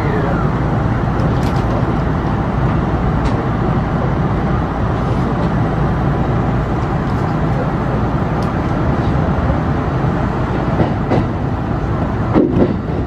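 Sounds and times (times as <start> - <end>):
electric train rumble and hiss: 0.0 - 13.0.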